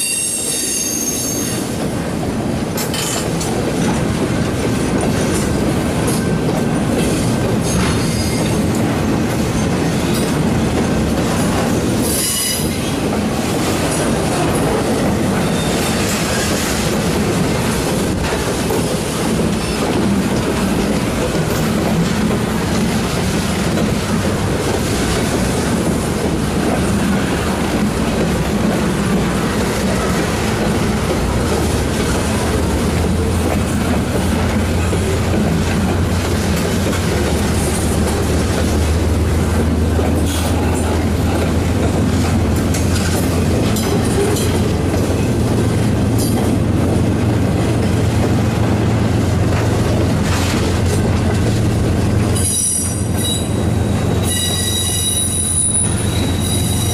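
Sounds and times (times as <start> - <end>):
train wheels clattering on rails: 0.0 - 56.9.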